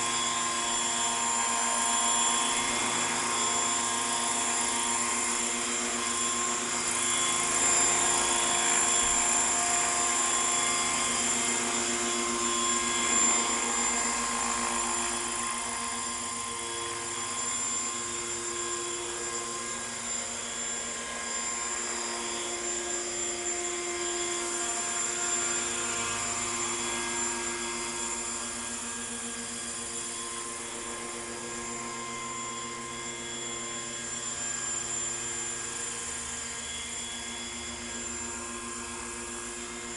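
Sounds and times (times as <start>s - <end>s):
model helicopter high whine: 0.0s - 39.9s.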